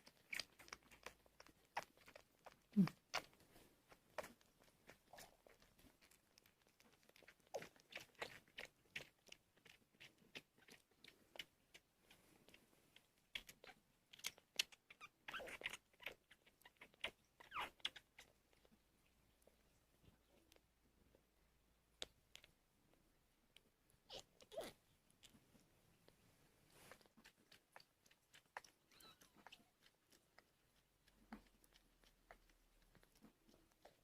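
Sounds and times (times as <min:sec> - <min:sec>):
kittens suckling from bottle: 0:00.0 - 0:21.4, 0:22.0 - 0:34.0.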